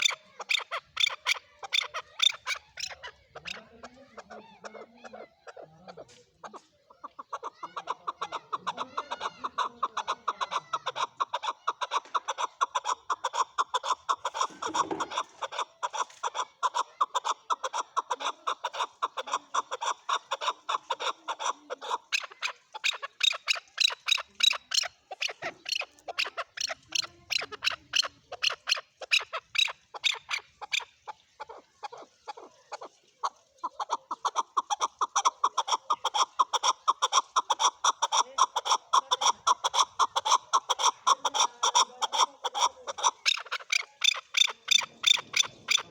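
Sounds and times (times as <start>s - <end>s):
partridge chuck calls: 0.0s - 45.9s.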